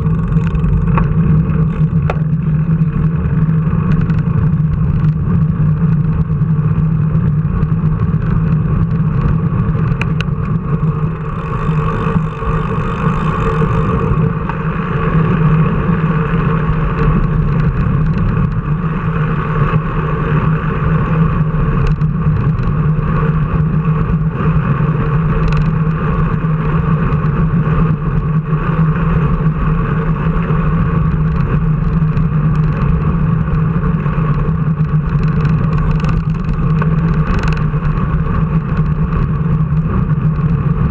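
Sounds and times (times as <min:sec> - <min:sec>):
vehicle engine droning: 0:00.0 - 0:40.9.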